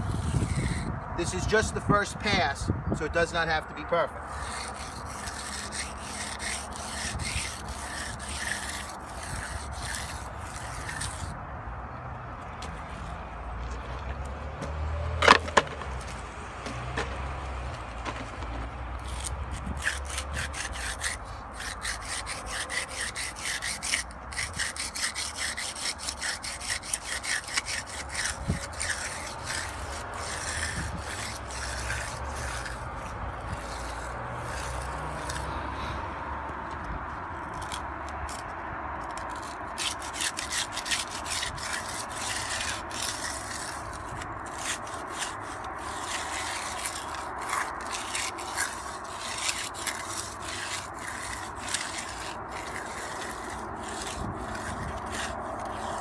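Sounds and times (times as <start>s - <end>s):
edger scraping wet concrete: 0.0s - 11.4s, 12.6s - 36.0s, 37.4s - 56.0s.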